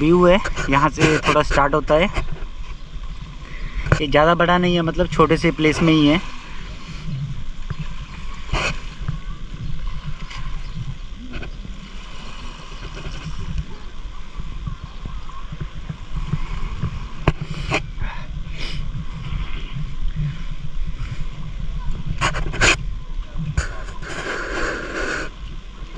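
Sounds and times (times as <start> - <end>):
small waves lapping: 0.0 - 25.9
wind on microphone: 0.0 - 25.9.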